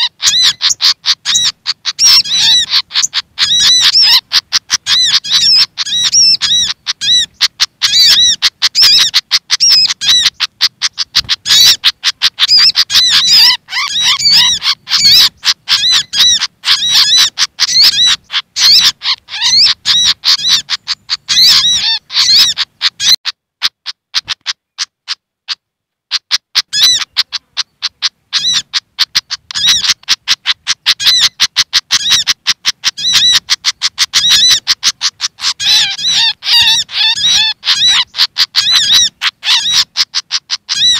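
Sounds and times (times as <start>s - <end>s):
birds chipping and twittering: 0.0s - 40.9s.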